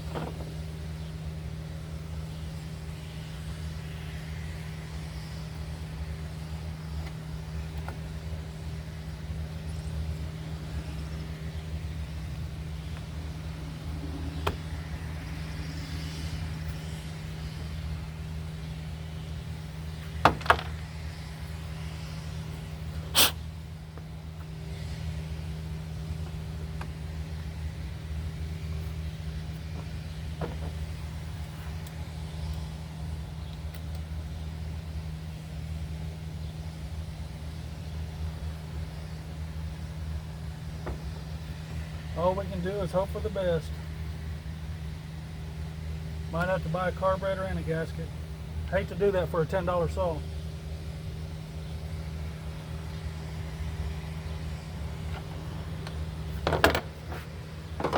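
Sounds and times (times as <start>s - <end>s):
low background hum: 0.0s - 57.9s.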